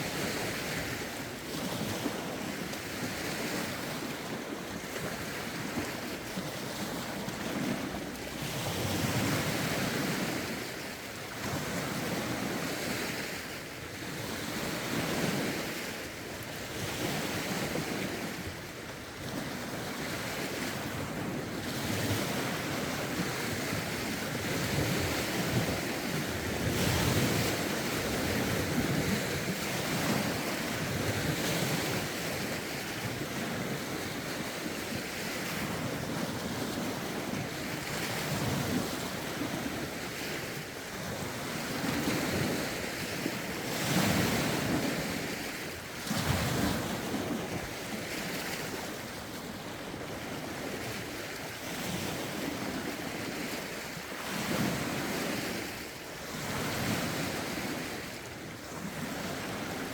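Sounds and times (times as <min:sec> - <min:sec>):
waves washing against shore: 0:00.0 - 0:59.9.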